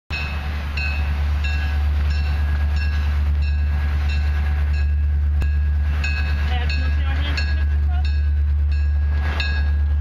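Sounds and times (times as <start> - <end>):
railroad bell ringing: 0.1 - 10.0
train low rumble: 0.1 - 10.0.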